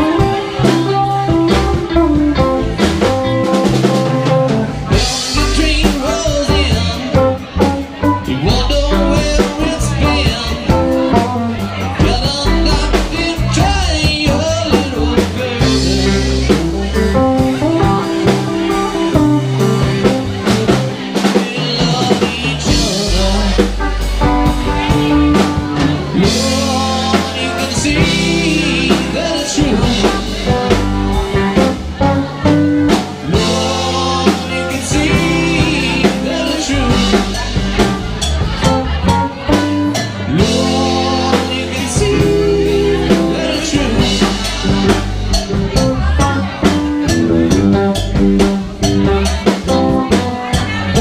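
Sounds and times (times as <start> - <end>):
live rock band playing: 0.0 - 51.0.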